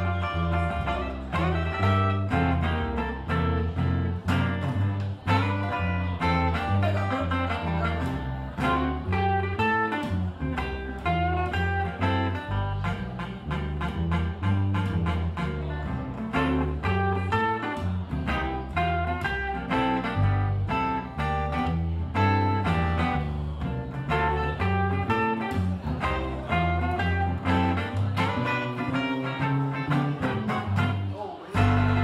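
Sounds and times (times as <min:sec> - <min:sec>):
acoustic guitar picking: 0:00.0 - 0:32.0
upright bass line: 0:00.0 - 0:32.0.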